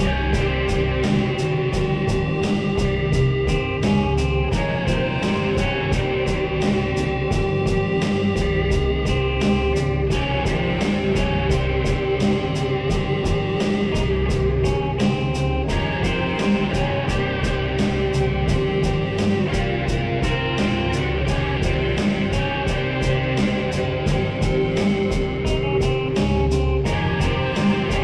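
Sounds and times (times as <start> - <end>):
processed guitar rock music: 0.0 - 28.0.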